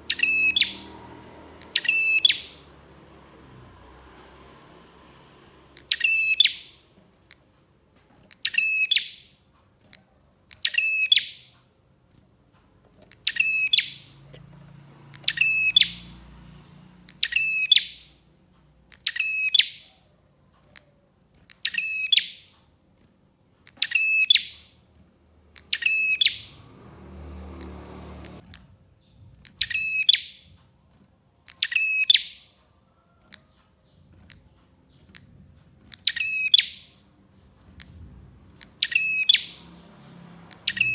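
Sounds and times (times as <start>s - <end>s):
bird buzzy chattering song: 0.0s - 12.0s, 12.8s - 22.9s, 23.6s - 30.6s, 31.3s - 40.9s.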